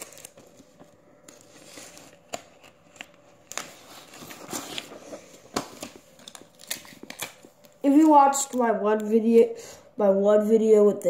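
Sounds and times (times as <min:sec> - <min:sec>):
tape and paper crinkling: 0:00.0 - 0:09.1
faint steady hum: 0:00.0 - 0:11.0.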